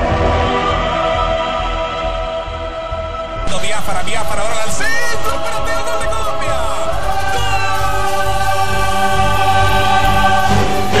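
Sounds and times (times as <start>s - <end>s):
choral singing: 0.0s - 11.0s.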